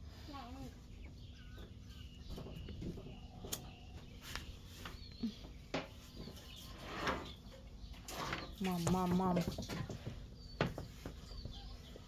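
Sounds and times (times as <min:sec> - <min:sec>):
faint bird chirp: 0:00.2 - 0:08.7, 0:10.1 - 0:12.0.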